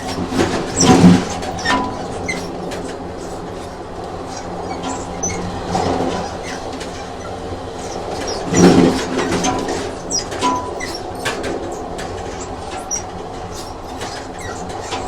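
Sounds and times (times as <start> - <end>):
high wheel squeaks: 0.0 - 15.0
train rumbling on rails: 0.0 - 15.0
wheels clattering over rail joints: 0.0 - 15.0.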